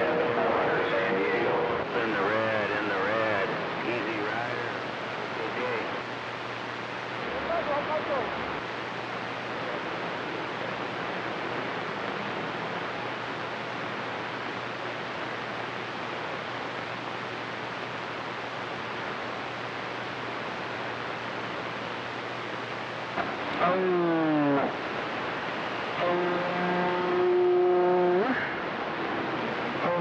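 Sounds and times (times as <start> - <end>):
faint low hum: 0.0 - 30.0
radio static hiss: 0.0 - 30.0.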